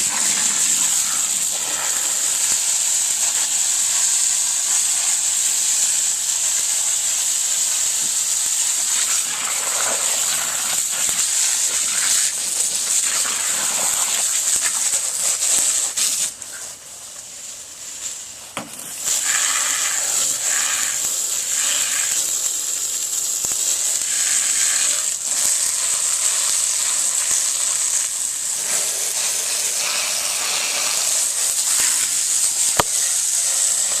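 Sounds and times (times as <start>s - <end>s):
steam hissing off embers: 0.0s - 34.0s.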